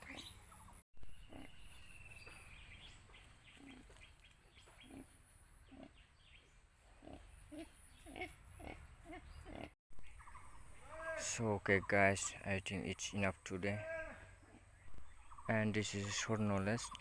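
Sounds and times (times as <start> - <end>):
animal and bird calls: 0.0 - 17.0.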